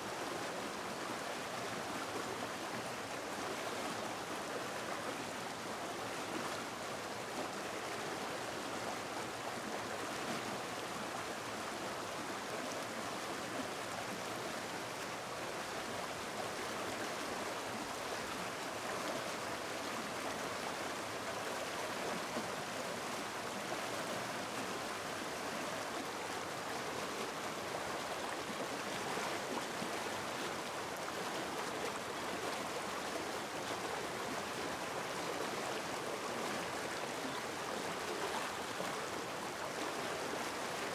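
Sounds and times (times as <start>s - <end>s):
stream rushing over rapids: 0.0s - 40.9s.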